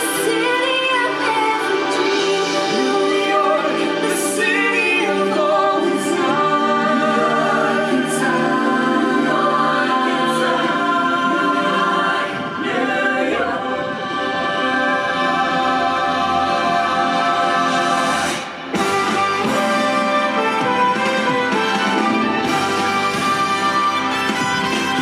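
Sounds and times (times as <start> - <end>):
choir singing held notes: 0.0 - 25.0.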